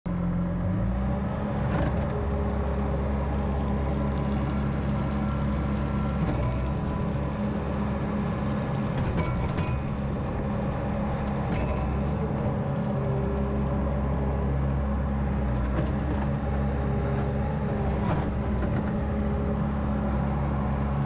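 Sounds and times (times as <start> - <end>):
diesel engine running: 0.1 - 21.0.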